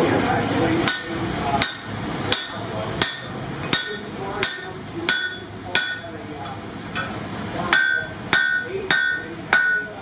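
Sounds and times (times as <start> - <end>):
hammer blows on anvil: 0.8 - 6.1, 7.0 - 10.0.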